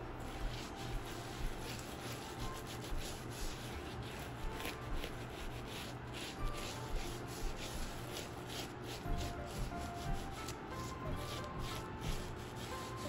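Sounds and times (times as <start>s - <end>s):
palm rubbing butter on flatbread: 0.0s - 13.0s.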